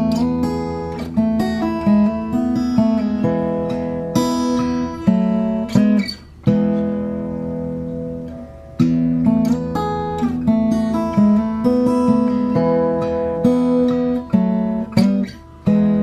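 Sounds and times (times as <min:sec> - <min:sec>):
acoustic guitar strummed chords: 0:00.0 - 0:16.0.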